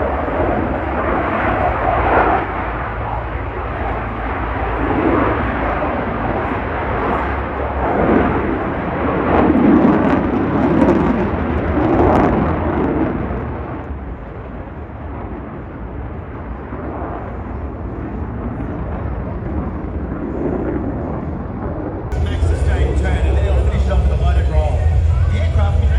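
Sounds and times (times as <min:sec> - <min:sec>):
jet engine roar: 0:00.0 - 0:25.9.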